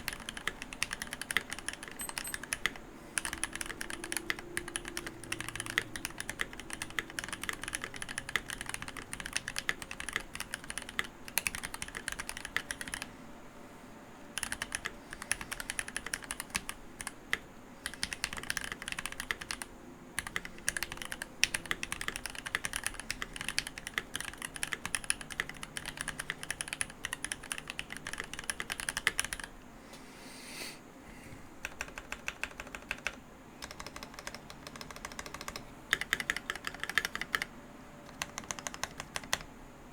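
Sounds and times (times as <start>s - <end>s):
mechanical keyboard typing: 0.0s - 13.1s, 14.4s - 29.5s, 31.6s - 39.5s.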